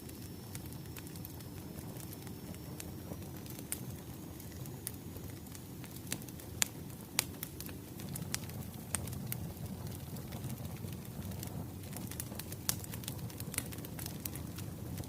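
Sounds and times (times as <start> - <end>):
wood fire crackling: 0.0 - 15.0
sharp pops of burning logs: 0.2 - 15.0.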